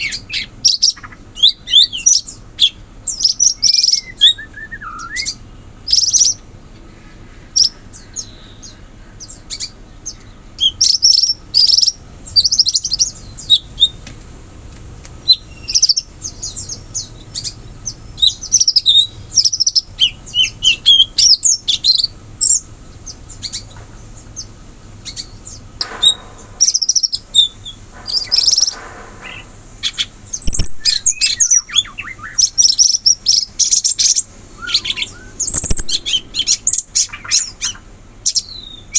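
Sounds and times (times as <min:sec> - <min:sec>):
bird chirping and whistling: 0:00.0 - 0:06.4, 0:07.6 - 0:14.0, 0:15.2 - 0:38.9
harsh buzzy bird calls: 0:00.0 - 0:14.1, 0:15.0 - 0:38.9.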